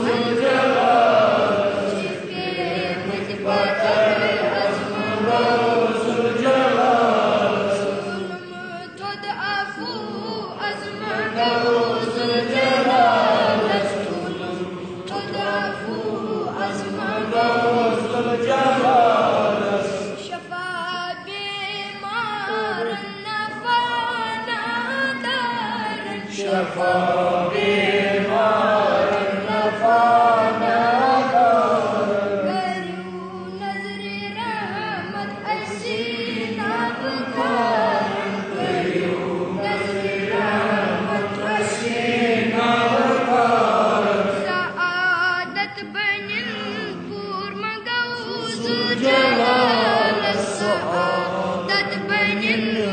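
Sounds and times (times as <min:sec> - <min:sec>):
child singing devotional song: 0:00.0 - 0:52.9.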